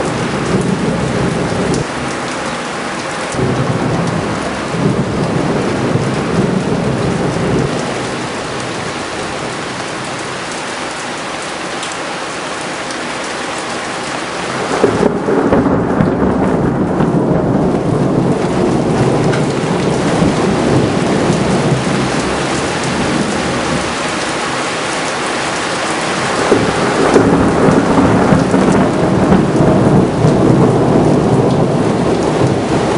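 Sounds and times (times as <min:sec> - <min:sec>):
thunder rolling: 0:00.0 - 0:02.4, 0:03.3 - 0:10.5, 0:14.4 - 0:24.9, 0:25.6 - 0:32.9
steady rain: 0:00.0 - 0:32.9.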